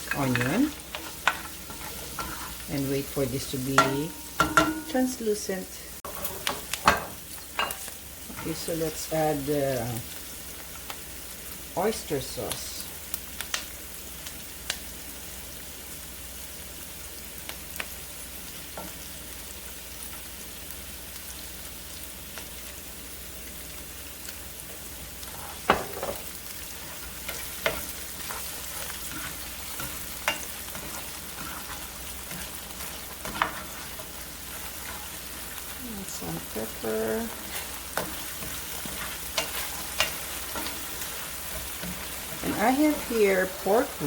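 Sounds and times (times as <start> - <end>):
onions sizzling in a pan: 0.0 - 44.0.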